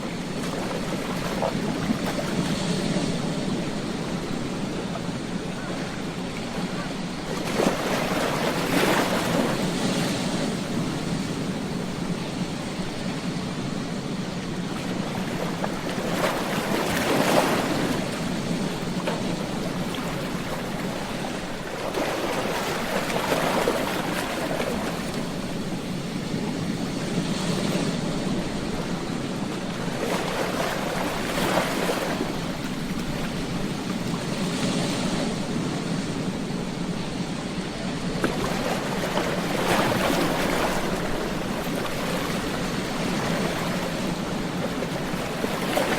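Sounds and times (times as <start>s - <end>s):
ocean waves breaking on beach: 0.0s - 45.9s.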